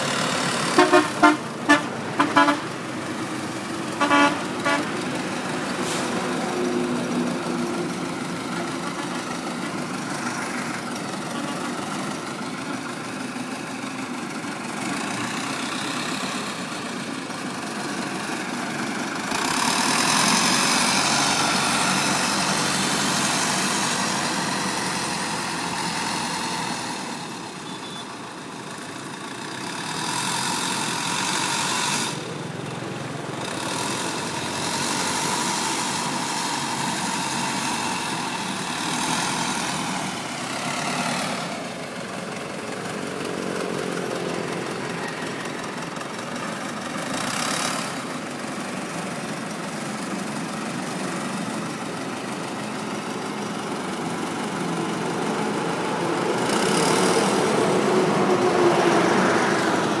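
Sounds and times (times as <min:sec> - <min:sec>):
truck engine idling: 0:00.0 - 1:00.0
wheel loader diesel engine: 0:00.0 - 1:00.0.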